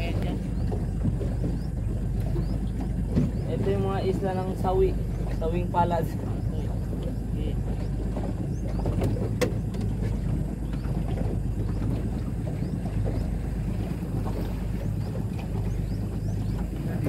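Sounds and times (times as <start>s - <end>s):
boat engine running: 0.0s - 17.0s
wind on microphone: 0.0s - 17.0s.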